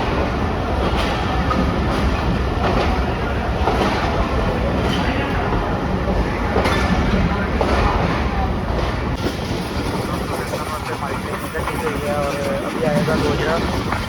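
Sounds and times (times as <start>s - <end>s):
train rumbling along track: 0.0s - 14.0s
train wheels knocking: 0.0s - 14.0s.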